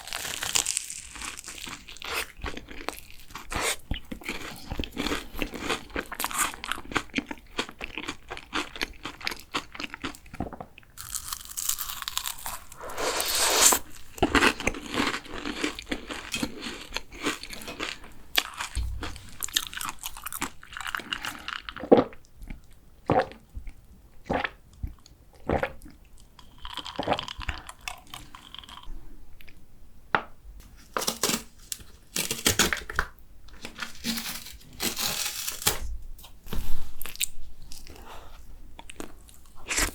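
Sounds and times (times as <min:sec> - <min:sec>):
crunching and chewing pastry: 0:00.0 - 0:29.6, 0:31.0 - 0:35.7.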